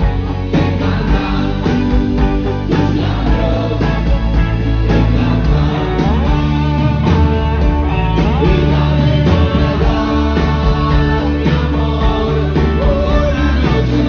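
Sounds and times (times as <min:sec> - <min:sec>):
live rock band playing: 0:00.0 - 0:14.0
man singing into microphone: 0:00.0 - 0:14.0.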